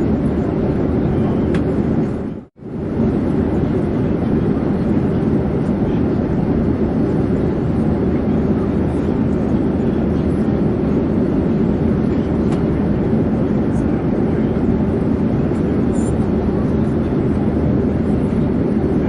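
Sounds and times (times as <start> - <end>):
airplane rumble: 0.0 - 19.0.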